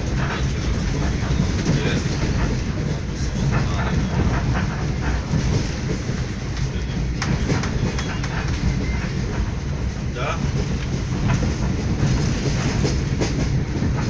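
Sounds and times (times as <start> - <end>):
train rumbling: 0.0 - 14.0
train wheels clicking: 0.0 - 14.0.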